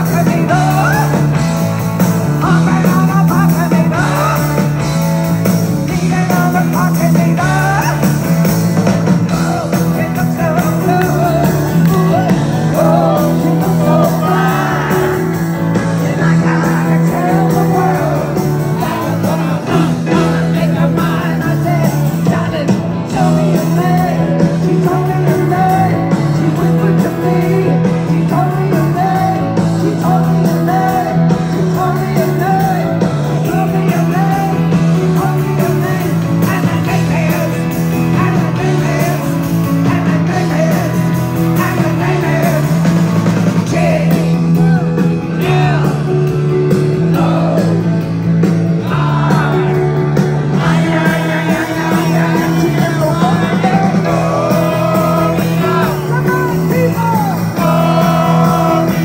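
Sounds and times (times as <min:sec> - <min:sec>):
person singing: 0:00.0 - 0:01.4, 0:05.8 - 0:08.2, 0:09.2 - 0:48.0, 0:48.8 - 0:59.0
live rock band playing: 0:00.0 - 0:59.0.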